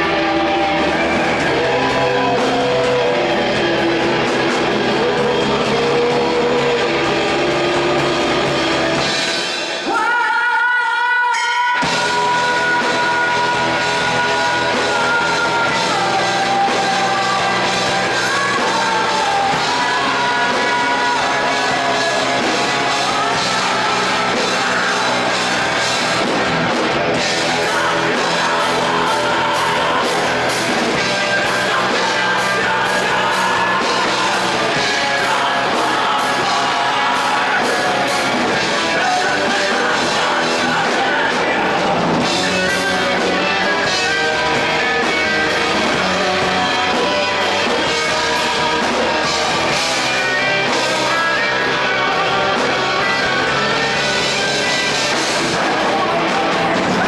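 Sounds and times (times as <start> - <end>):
live rock band: 0.0 - 57.0
person singing: 0.0 - 57.0.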